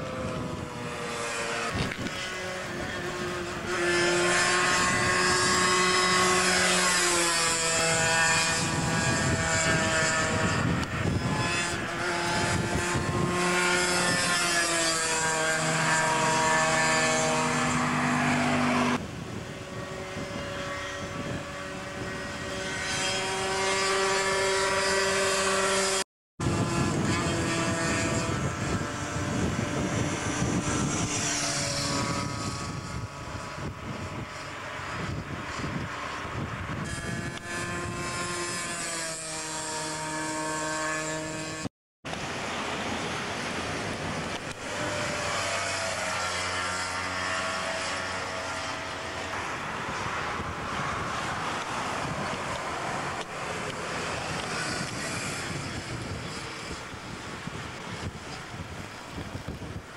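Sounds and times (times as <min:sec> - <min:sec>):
motorcycles revving past: 0:00.0 - 0:26.0, 0:26.6 - 0:58.5.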